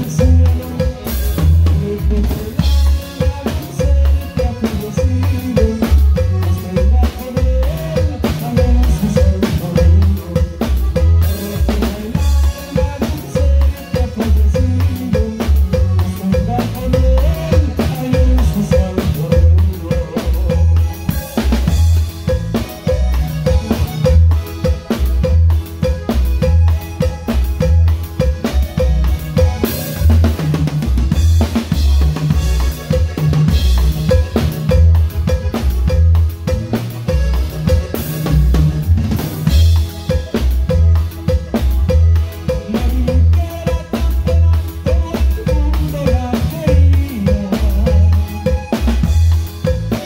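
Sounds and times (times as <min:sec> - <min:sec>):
band music: 0:00.0 - 0:50.0
drum kit beat: 0:00.0 - 0:50.0.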